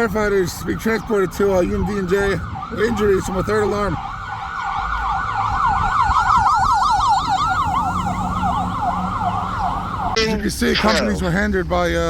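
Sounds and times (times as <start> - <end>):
ambulance siren yelping: 0.6 - 11.4.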